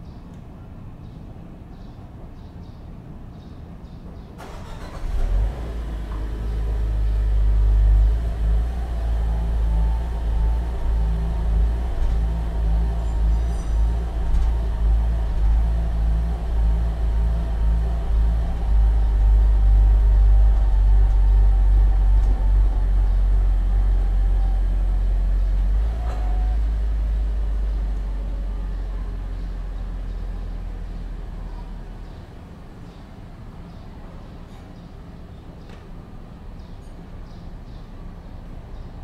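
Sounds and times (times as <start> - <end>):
passing vehicle engine rumble: 4.4 - 39.0.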